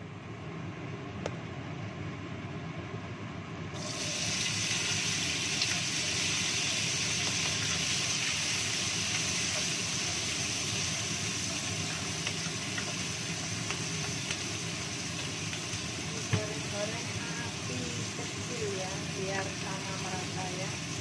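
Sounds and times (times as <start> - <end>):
extractor fan humming: 0.0 - 21.0
food sizzling in hot oil: 3.8 - 21.0.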